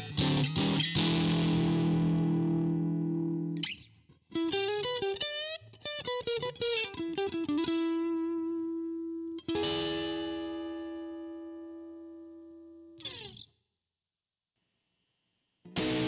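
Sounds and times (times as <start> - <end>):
overdriven electric guitar: 0.0 - 13.5, 15.7 - 16.0.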